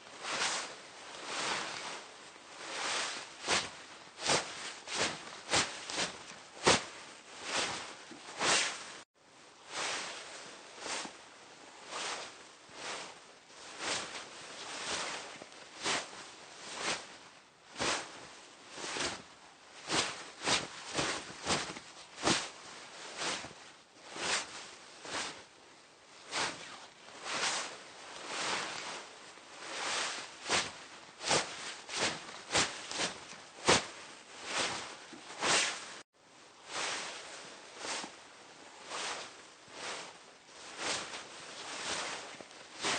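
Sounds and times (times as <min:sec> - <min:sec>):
fabric rustling: 0:00.0 - 0:42.9.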